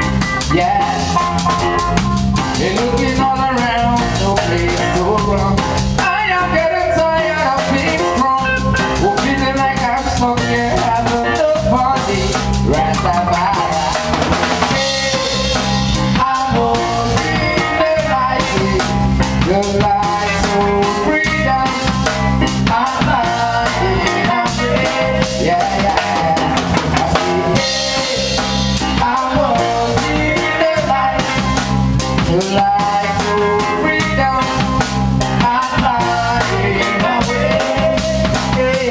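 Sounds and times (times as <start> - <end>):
band playing with steady beat: 0.0 - 38.9.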